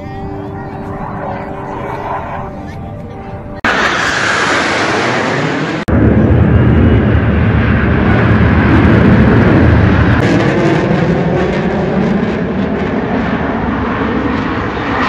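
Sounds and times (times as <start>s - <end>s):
jet aircraft roaring overhead: 0.0s - 15.0s.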